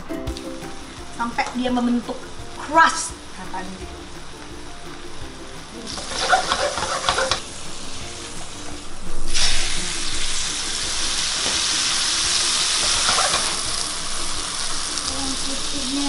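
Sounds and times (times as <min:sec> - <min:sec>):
steak sizzling in a frying pan: 0:00.4 - 0:16.0.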